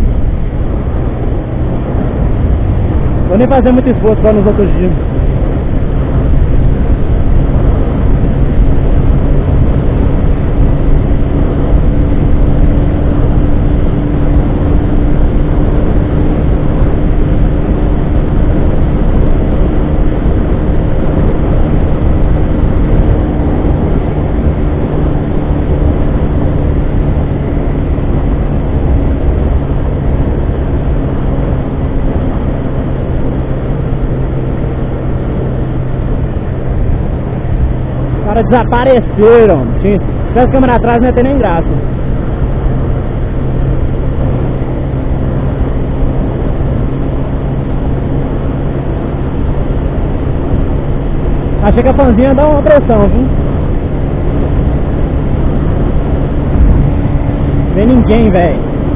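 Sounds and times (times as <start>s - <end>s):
motorcycle engine at full throttle: 0.0s - 58.9s
wind rush on microphone: 0.0s - 58.9s.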